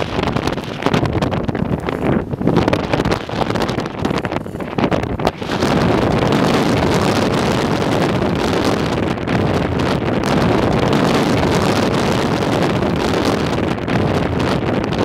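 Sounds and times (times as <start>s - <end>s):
blizzard wind on microphone: 0.0s - 15.0s.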